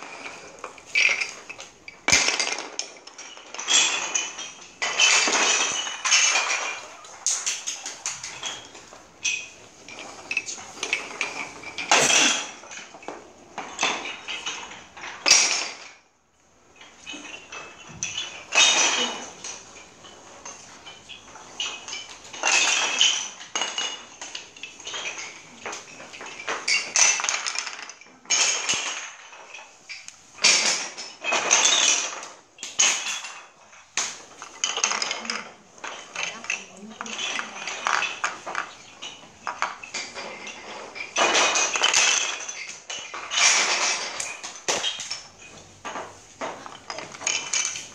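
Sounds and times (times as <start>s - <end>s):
wooden sticks clattering on floor: 0.0s - 47.9s.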